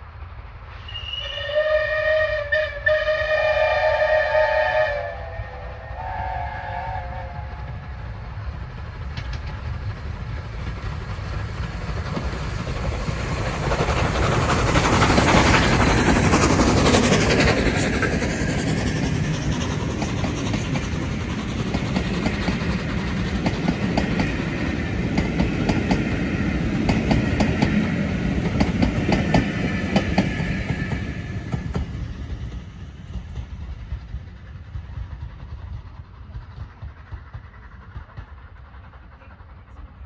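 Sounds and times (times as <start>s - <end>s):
train wheels clicking over rail joints: 7.3s - 40.0s.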